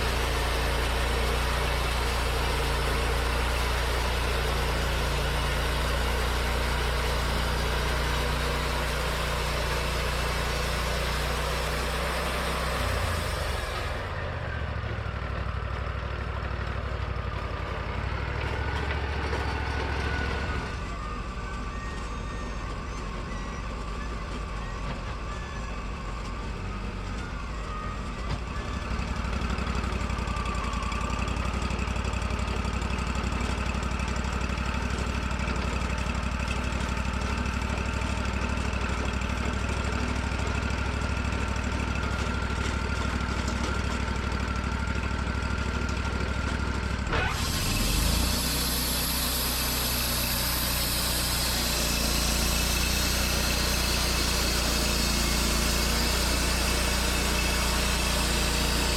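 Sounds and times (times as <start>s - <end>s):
band sawmill engine hum: 0.0s - 58.9s.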